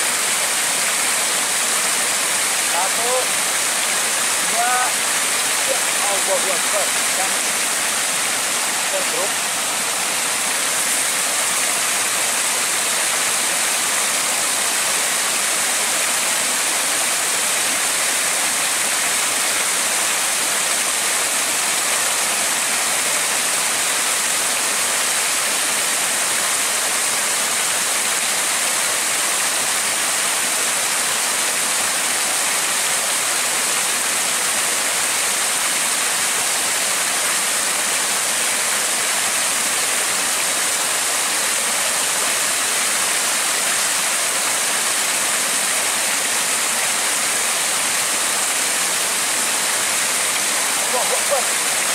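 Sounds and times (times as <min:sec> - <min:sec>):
river water pouring over weir: 0:00.0 - 0:51.9.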